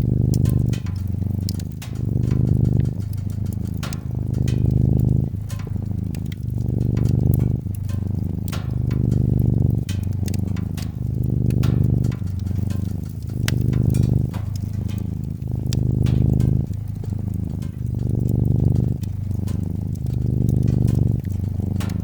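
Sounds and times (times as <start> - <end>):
cat purring: 0.0 - 22.0
wood fire crackling: 0.0 - 22.0.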